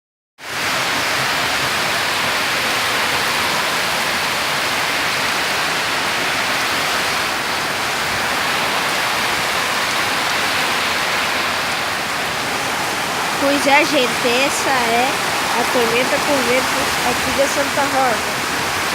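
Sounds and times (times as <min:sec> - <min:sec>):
heavy wind-driven rain: 0:00.4 - 0:18.9.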